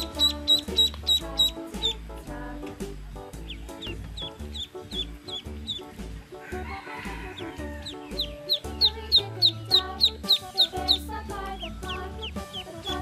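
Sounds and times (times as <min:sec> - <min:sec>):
background music with steady beat: 0:00.0 - 0:13.0
ducklings peeping: 0:00.0 - 0:13.0.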